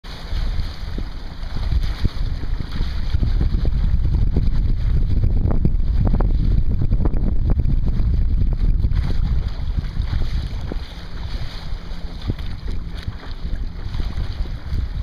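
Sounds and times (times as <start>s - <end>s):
water slapping and rushing along hull: 0.0s - 15.0s
wind buffeting microphone: 0.1s - 15.0s.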